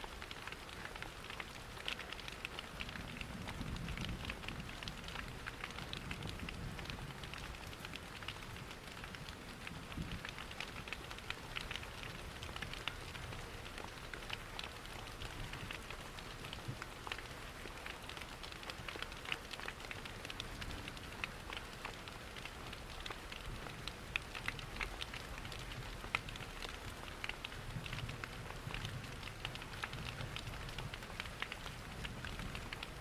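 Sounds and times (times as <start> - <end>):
steady rain: 0.0 - 33.0
fireplace fire crackling: 0.1 - 33.0.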